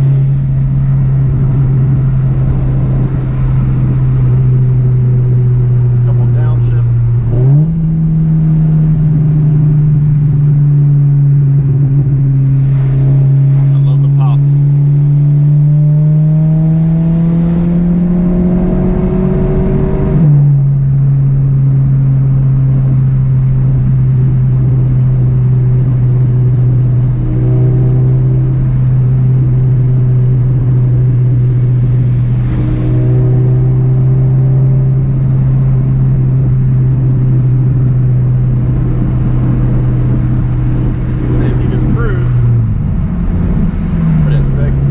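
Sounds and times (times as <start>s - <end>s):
car engine accelerating and cruising: 0.0s - 44.9s.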